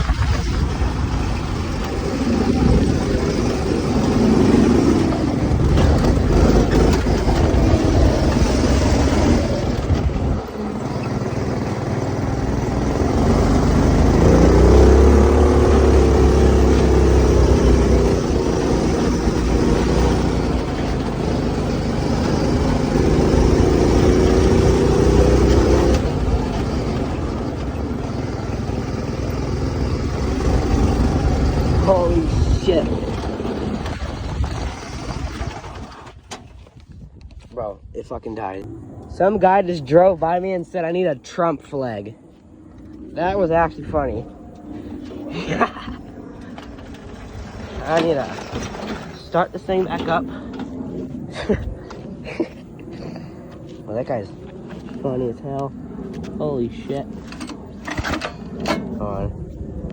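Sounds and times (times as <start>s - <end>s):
go-kart engine running hard: 0.0s - 36.6s, 43.2s - 53.6s, 56.2s - 59.9s.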